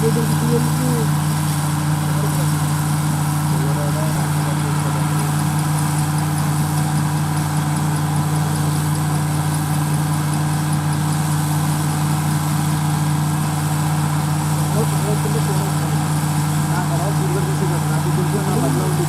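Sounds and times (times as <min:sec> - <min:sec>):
diesel engine humming: 0:00.0 - 0:19.0
faint rapid high ticking: 0:00.0 - 0:19.0.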